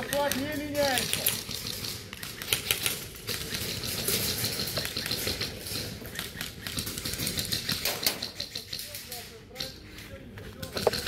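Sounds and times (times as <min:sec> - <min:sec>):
airsoft guns firing bursts: 0:00.0 - 0:09.8.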